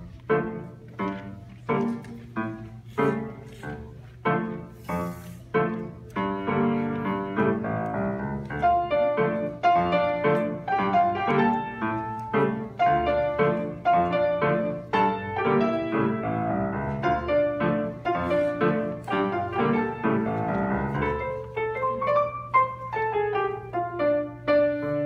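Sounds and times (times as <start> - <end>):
grand piano playing: 0.0 - 25.0.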